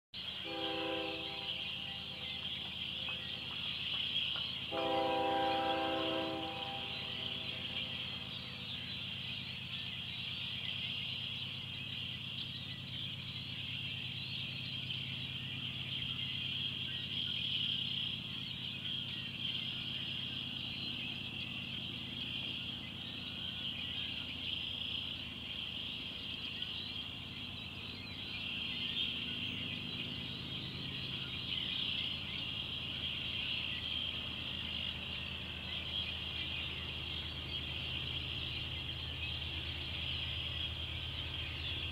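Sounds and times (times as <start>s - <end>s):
frogs trilling: 0.2s - 41.9s.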